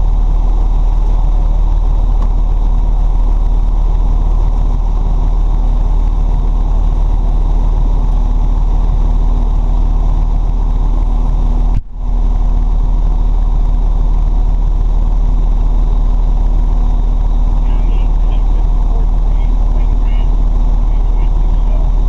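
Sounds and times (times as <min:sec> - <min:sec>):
fire truck diesel engine idling: 0:00.0 - 0:22.0.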